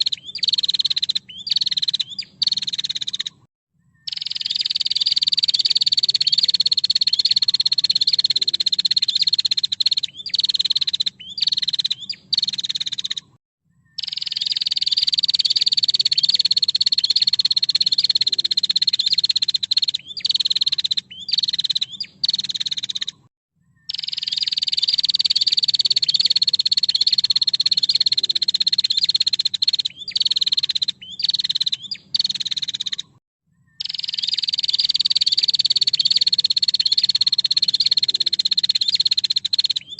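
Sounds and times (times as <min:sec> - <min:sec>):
bird rattling trill: 0:00.0 - 0:03.4, 0:04.1 - 0:13.3, 0:14.0 - 0:23.2, 0:23.9 - 0:33.1, 0:33.8 - 0:39.9.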